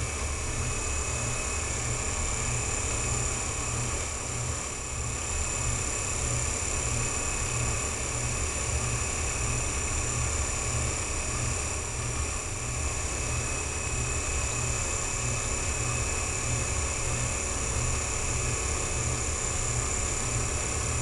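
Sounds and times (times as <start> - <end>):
electric motor hum with throb: 0.0 - 21.0.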